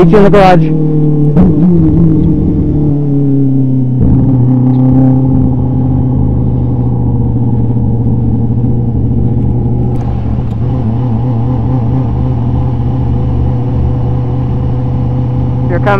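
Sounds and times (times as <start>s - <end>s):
race car engine at low revs: 0.0s - 15.9s.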